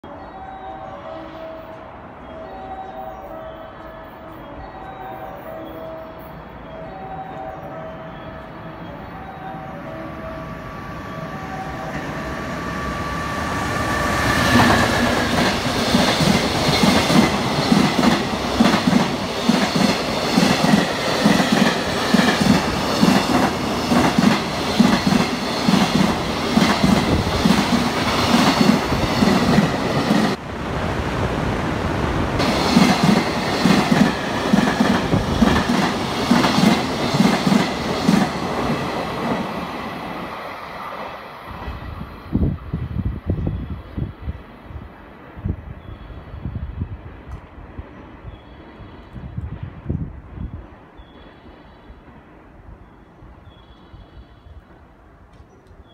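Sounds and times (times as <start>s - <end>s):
electric locomotive whine: 0.0s - 55.9s.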